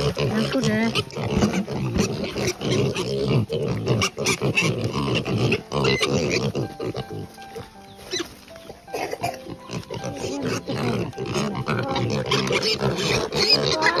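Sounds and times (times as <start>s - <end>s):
music: 0.0s - 14.0s
piglets grunting and calling: 0.0s - 14.0s.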